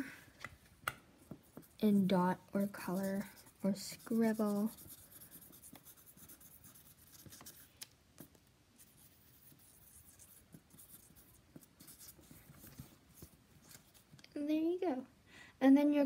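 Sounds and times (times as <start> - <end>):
marker scratching on paper: 1.2 - 14.1.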